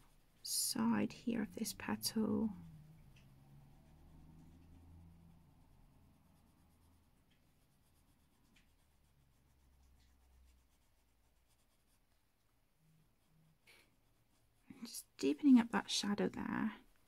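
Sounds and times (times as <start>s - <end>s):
colouring tool scratching on paper: 0.0s - 17.0s
low room hum: 0.0s - 17.0s.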